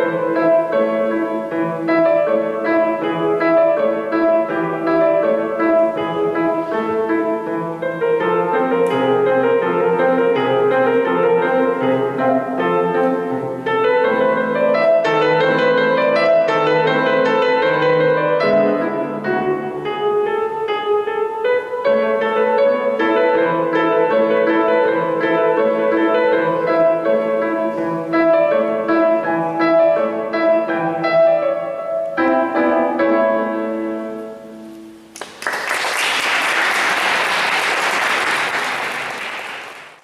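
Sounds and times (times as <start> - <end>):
solo grand piano: 0.0 - 40.0.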